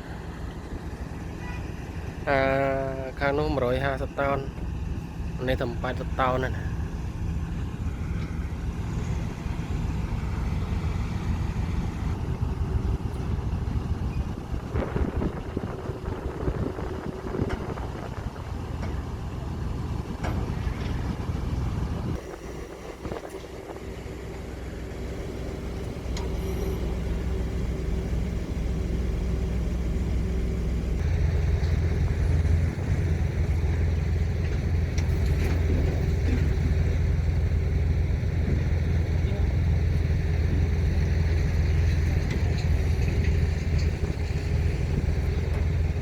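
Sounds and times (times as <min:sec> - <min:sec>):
crane diesel engine running: 0:00.0 - 0:46.0.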